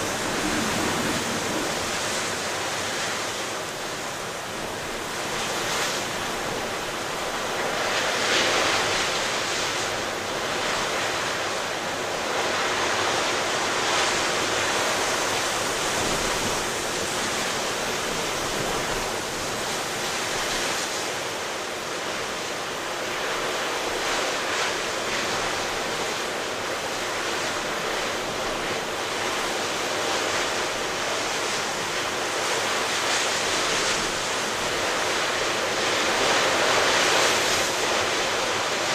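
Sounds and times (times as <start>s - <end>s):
ocean surf breaking: 0.0s - 38.9s
strong wind: 0.0s - 38.9s.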